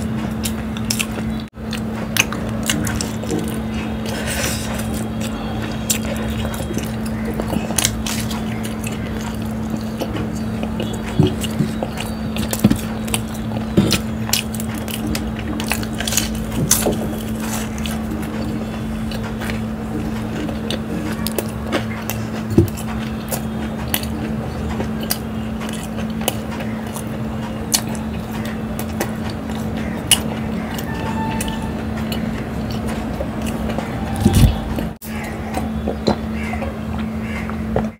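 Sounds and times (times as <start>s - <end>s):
chewing and crunching: 0.0s - 37.9s
steady low hum: 0.0s - 37.9s.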